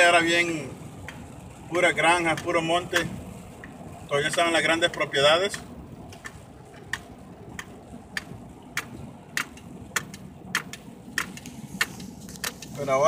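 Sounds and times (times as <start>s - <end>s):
engine and tyre road noise: 0.0s - 13.0s
turn signal clicking: 0.9s - 12.7s.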